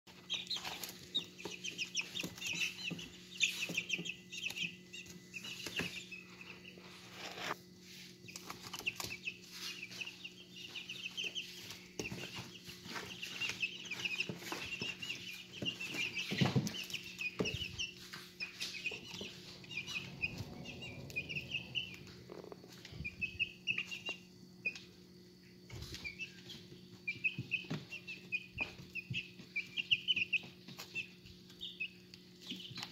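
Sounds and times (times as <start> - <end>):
steady low hum: 0.1 - 32.8
chicks peeping: 0.1 - 32.9.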